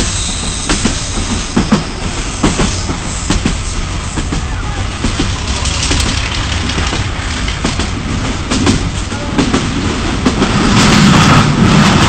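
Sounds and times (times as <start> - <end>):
passenger train rumbling: 0.0 - 12.0
wheels clacking over rail joints: 0.6 - 12.0.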